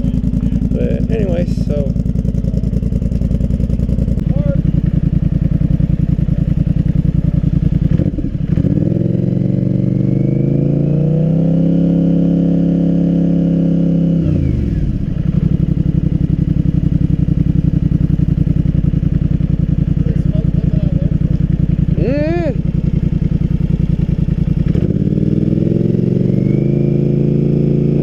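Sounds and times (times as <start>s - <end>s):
engine idling and revving: 0.0s - 28.0s.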